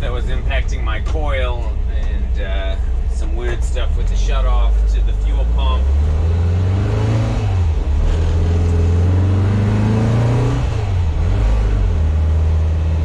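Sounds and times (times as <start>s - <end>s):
van engine accelerating: 0.0s - 13.0s.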